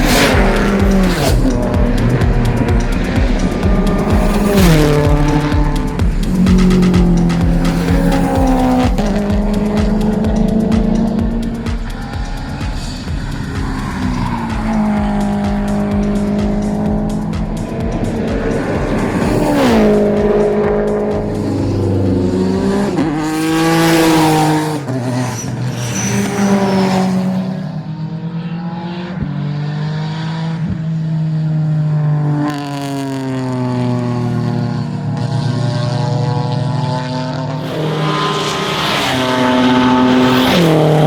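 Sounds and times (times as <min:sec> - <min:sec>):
race car engines at full throttle: 0:00.0 - 0:41.0.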